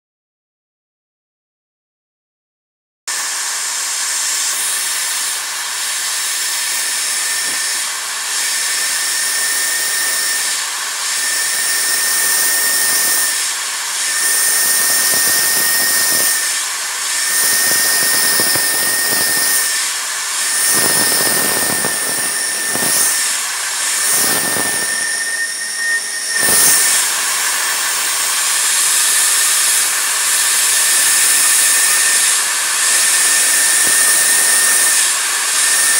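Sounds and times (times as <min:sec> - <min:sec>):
milling machine whine and hiss: 0:03.1 - 0:35.9
tool cutting plastic: 0:03.1 - 0:35.9.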